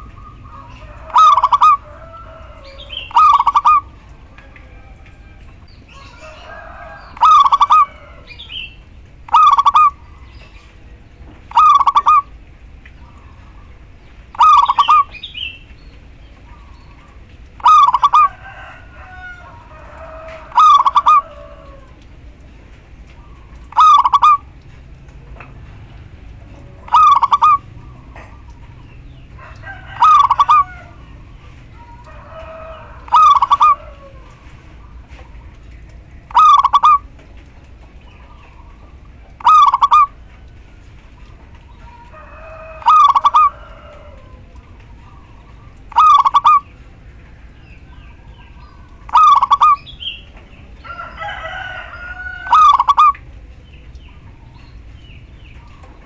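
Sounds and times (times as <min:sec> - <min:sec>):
dove calling: 0:00.0 - 0:56.0.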